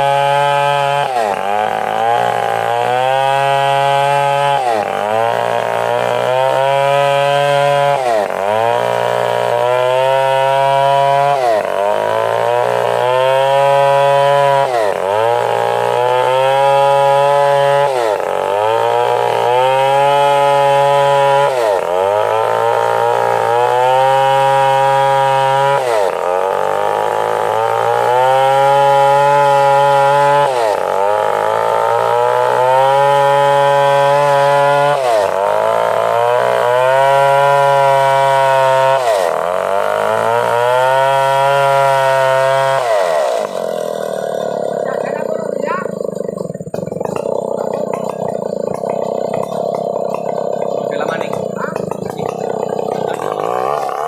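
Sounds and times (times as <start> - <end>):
chainsaw cutting under load: 0.0 - 54.0.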